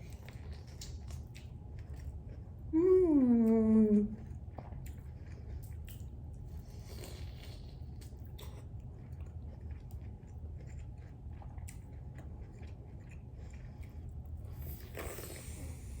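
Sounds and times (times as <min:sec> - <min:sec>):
person chewing corn: 0:00.0 - 0:02.8, 0:04.2 - 0:16.0
steady low hum: 0:00.0 - 0:16.0.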